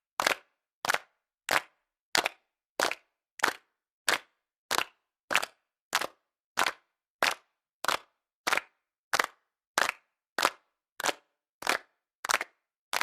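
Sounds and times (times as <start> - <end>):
group clapping in unison: 0.0 - 13.0.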